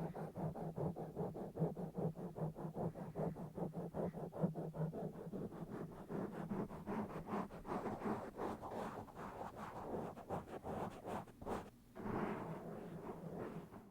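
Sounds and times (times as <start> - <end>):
fingers scratching a microphone: 2.1 - 13.9.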